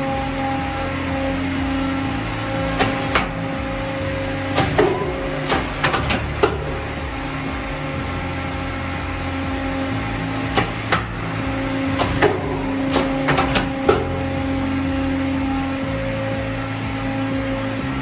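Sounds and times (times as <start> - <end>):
hydraulic system humming: 0.0 - 18.0
hydraulic valves clacking: 0.0 - 18.0.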